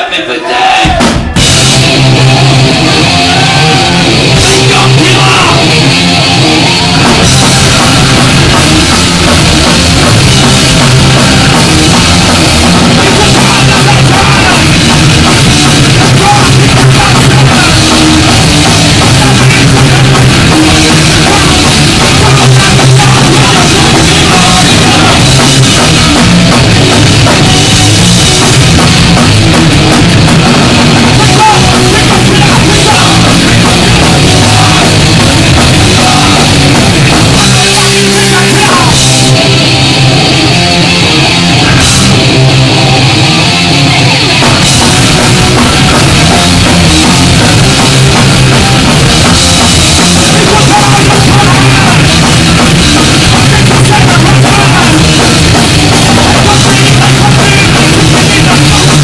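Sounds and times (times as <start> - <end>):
punk band playing live: 0.0 - 59.0.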